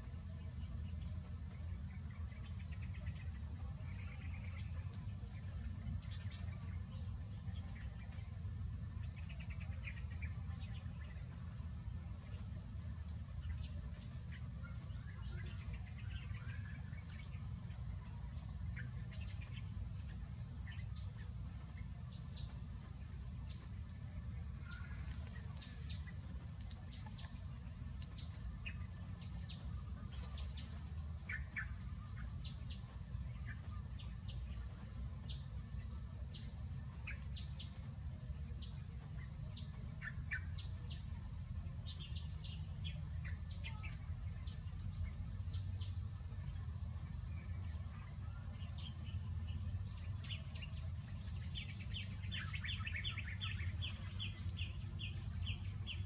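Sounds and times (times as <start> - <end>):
small birds chirping: 0.0 - 56.0
steady high-pitched hum: 0.0 - 56.0.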